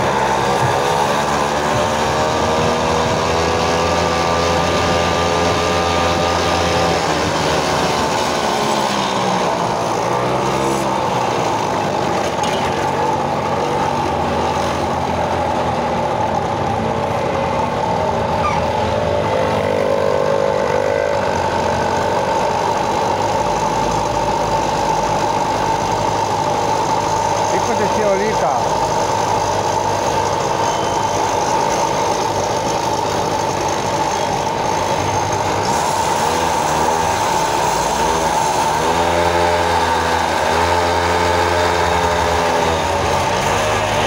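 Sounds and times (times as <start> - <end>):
moped engine revving: 0.0 - 44.0.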